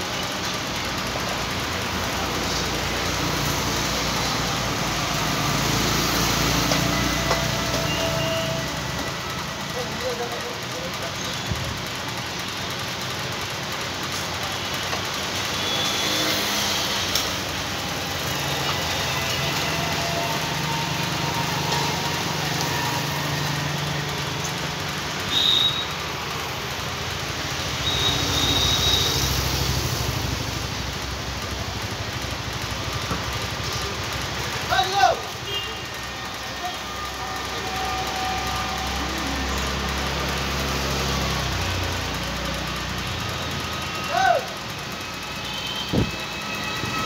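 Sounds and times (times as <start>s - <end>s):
engine-like drone: 0.0s - 47.0s.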